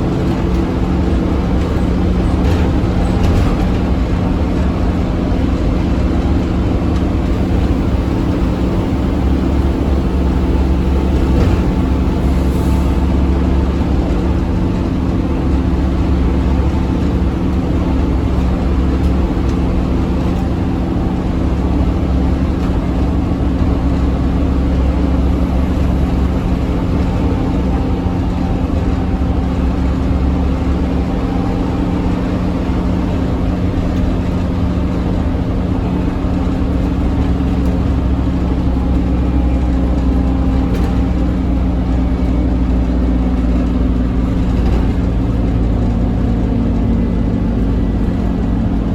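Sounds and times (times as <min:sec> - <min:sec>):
bus engine rumble: 0:00.0 - 0:48.9.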